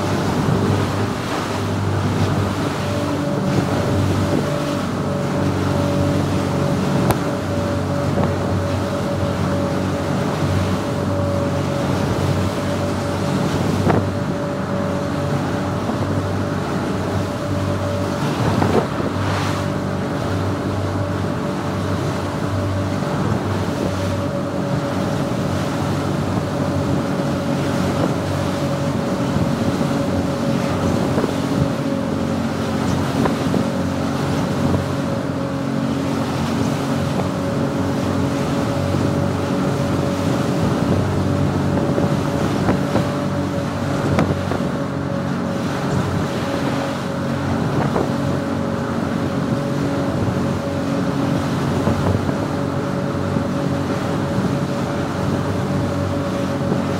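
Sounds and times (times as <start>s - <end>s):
motorboat engine drone: 0.0s - 56.9s
water rushing along hull: 0.0s - 56.9s
wind buffeting the microphone: 0.0s - 56.9s.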